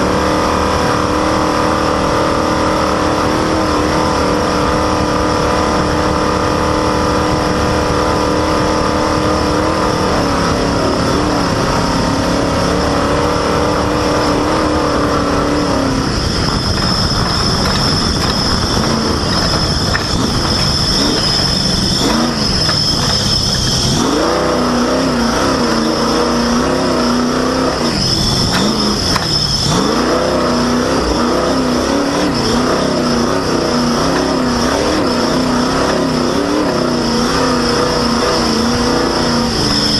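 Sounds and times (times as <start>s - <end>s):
constant rushing noise: 0.0s - 39.9s
high squeal of slipping drive belt: 0.0s - 39.9s
vehicle engine running under load: 0.0s - 39.9s.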